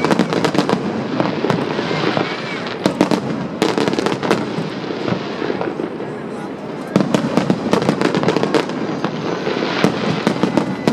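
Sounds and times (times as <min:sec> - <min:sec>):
fireworks bangs: 0:00.0 - 0:10.9
fireworks crackling: 0:00.0 - 0:10.9.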